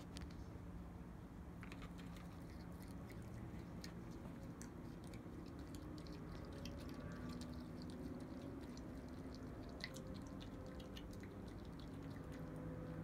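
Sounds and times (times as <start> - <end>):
steady low hum: 0.0 - 13.0
raccoon chewing grapes: 1.6 - 13.0.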